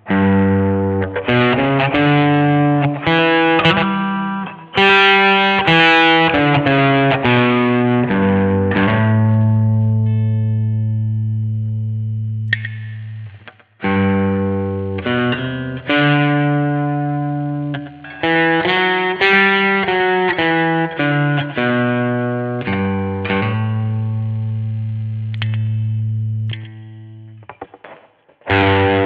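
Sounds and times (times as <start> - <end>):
electric guitar melody: 0.0 - 29.0.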